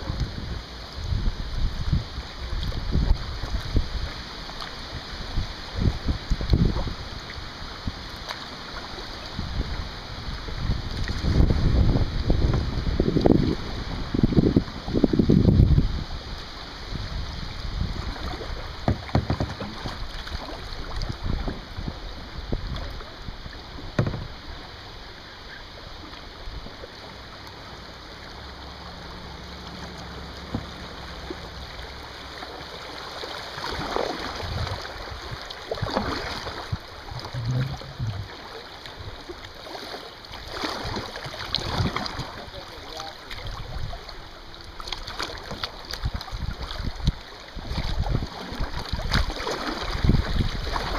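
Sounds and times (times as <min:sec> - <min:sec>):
paddle strokes splashing: 0:00.0 - 0:50.9
river rushing: 0:00.0 - 0:50.9.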